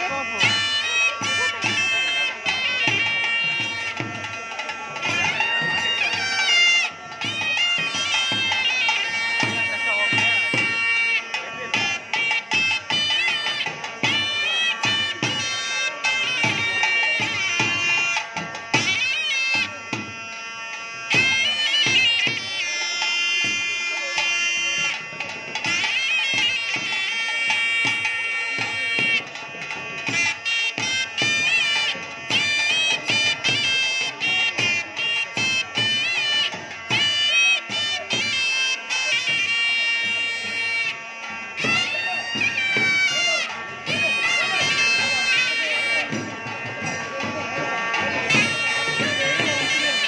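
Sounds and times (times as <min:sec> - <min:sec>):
reed wind instrument melody: 0:00.0 - 0:50.0
steady drum beats: 0:00.0 - 0:50.0.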